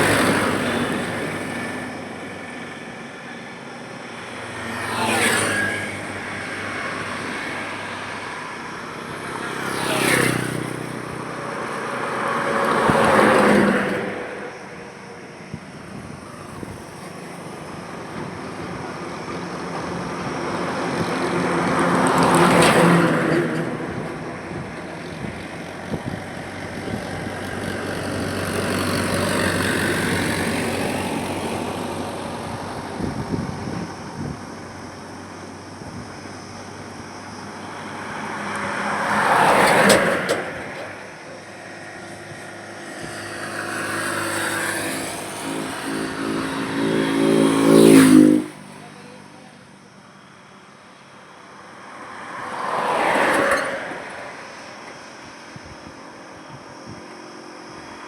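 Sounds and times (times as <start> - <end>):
highway vehicles passing: 0.0 - 58.0.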